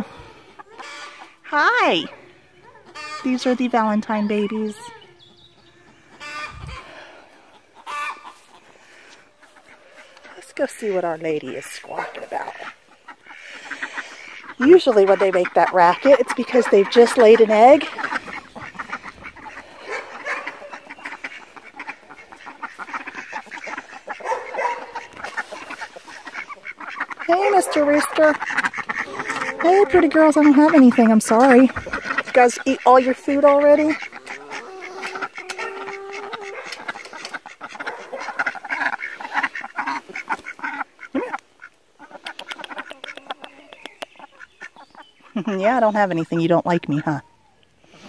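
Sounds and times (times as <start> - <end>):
ducks quacking: 0.0 - 47.2
chickens clucking: 0.0 - 48.0.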